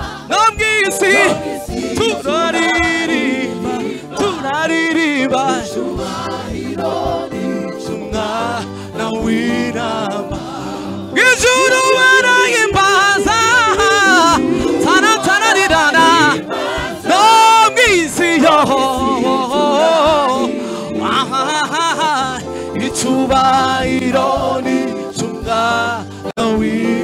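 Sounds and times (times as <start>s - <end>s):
backing music: 0.0s - 27.0s
voices singing worship song: 0.0s - 27.0s.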